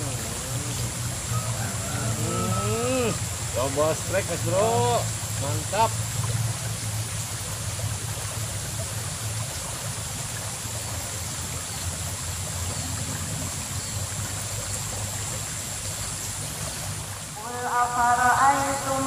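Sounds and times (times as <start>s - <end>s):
water rushing in a ditch: 0.0s - 19.0s.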